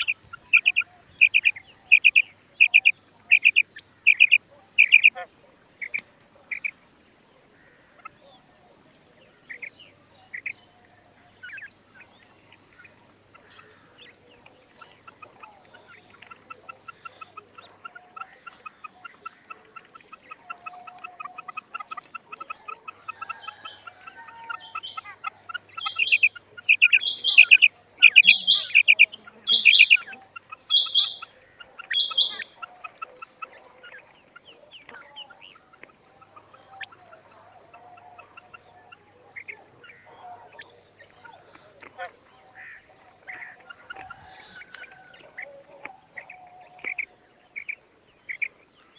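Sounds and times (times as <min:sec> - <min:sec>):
quail calling: 0:00.0 - 0:06.8, 0:07.4 - 0:48.9.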